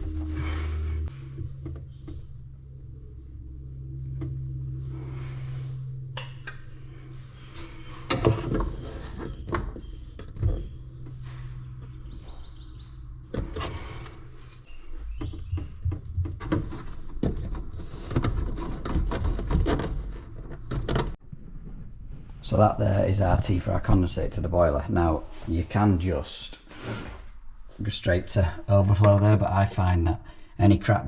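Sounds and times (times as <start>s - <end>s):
low hum: 0.0s - 26.6s.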